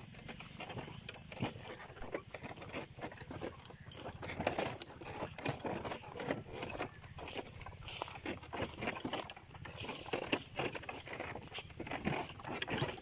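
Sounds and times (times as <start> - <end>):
footsteps crunching on dry stubble: 0.0 - 13.0.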